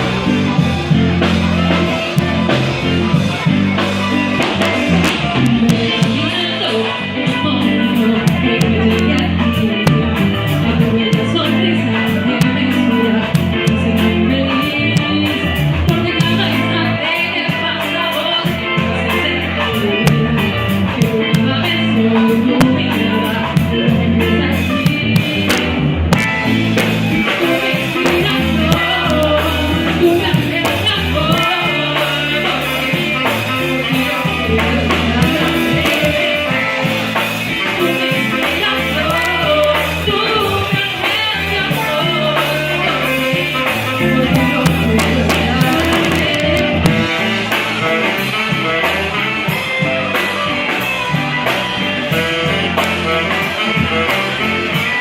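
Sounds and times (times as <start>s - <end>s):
person singing: 0.0s - 55.0s
rock guitar: 0.0s - 55.0s.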